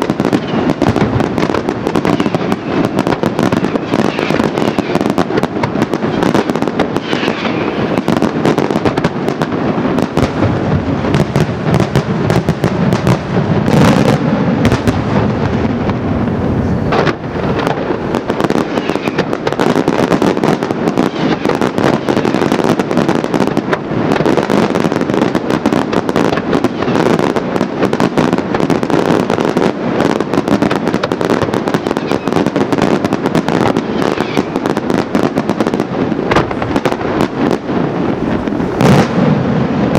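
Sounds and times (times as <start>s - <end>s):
fireworks bursting and crackling: 0.0s - 39.9s
loud firework cracks: 0.0s - 39.9s.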